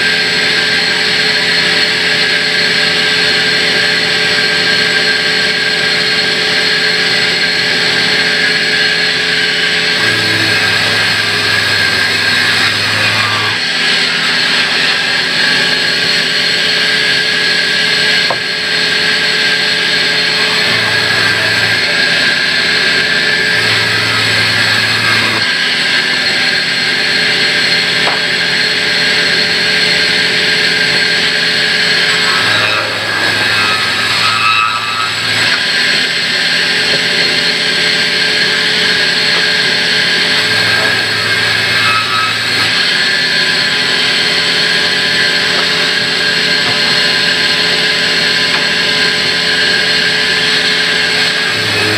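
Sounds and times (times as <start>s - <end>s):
band saw cutting log: 0.0s - 51.9s.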